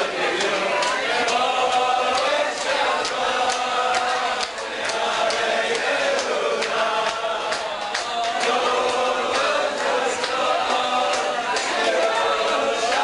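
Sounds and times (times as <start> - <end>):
men singing in unison: 0.0 - 13.0
sharp hand claps: 0.3 - 13.0.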